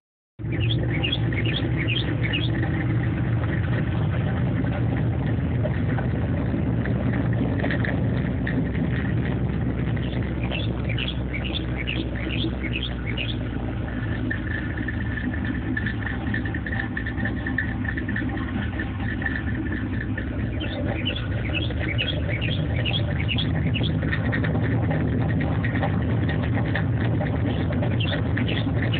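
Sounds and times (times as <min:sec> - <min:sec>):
car engine idling: 0:00.4 - 0:28.9.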